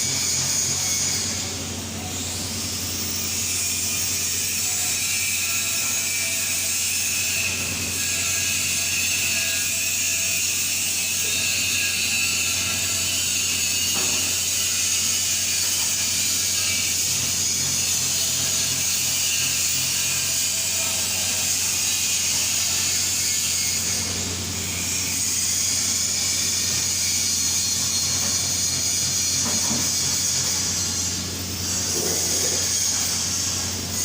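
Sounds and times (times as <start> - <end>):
welding arc hiss and buzz: 0.0 - 34.0.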